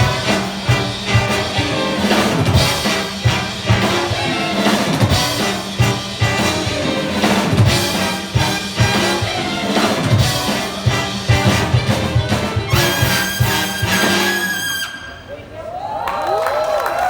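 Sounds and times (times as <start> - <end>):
drum kit: 0.0 - 14.9
big band brass: 0.0 - 15.4.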